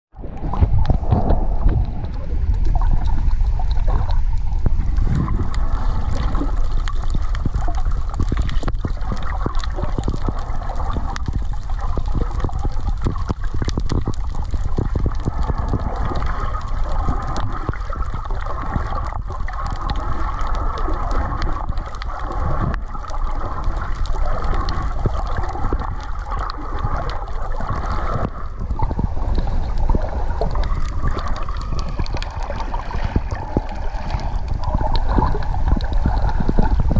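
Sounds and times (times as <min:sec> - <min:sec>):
muffled underwater rush of water: 0:00.1 - 0:36.9
crackle of small clicks: 0:00.3 - 0:36.9.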